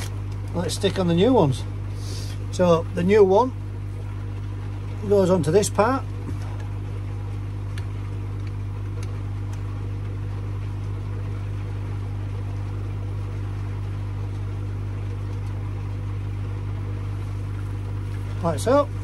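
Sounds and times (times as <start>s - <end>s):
pond pump humming: 0.0s - 19.0s.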